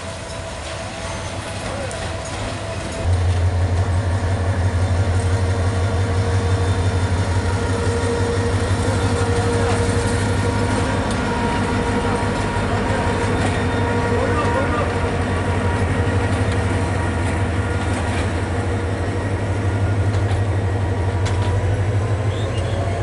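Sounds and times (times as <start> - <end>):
diesel locomotive engine drone: 0.0 - 23.0.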